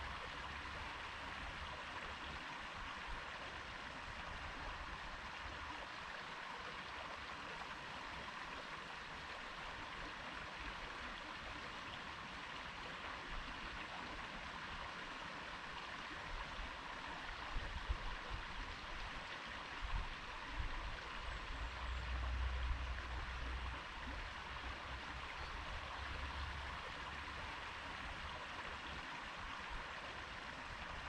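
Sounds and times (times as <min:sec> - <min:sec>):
stream rushing and babbling: 0:00.0 - 0:31.0.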